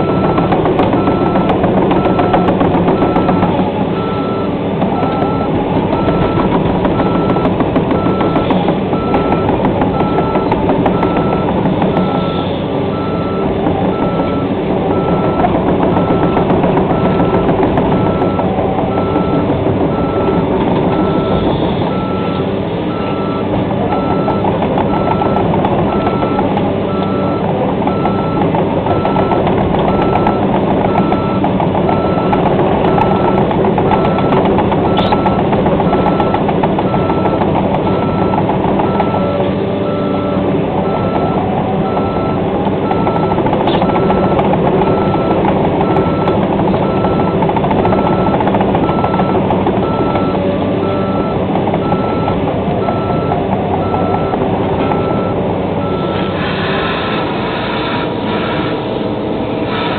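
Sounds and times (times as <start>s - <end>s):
backup alarm beeping: 0.0s - 56.4s
diesel excavator engine running: 0.0s - 59.9s.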